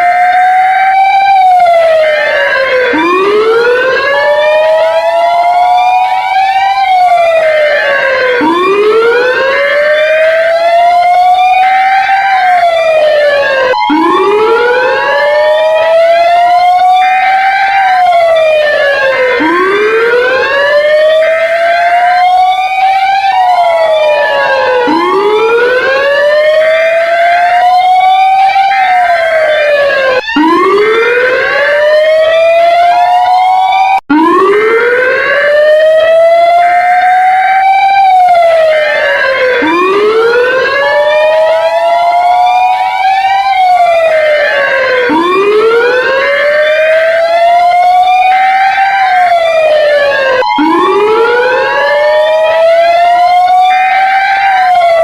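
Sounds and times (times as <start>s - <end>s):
emergency siren wailing: 0.0s - 55.0s.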